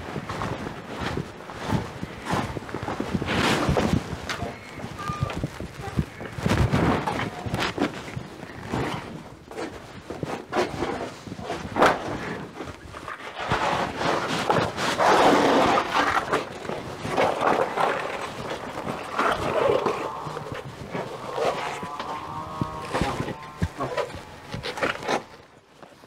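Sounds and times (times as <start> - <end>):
rubber sheets knocking and rustling: 0.0 - 25.3
scraping and rustling: 0.0 - 26.0.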